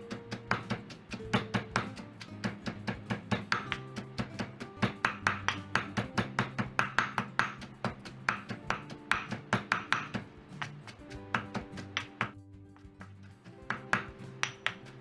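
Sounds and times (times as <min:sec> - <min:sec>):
background music: 0:00.0 - 0:15.0
pestle pounding in stone mortar: 0:00.0 - 0:15.0.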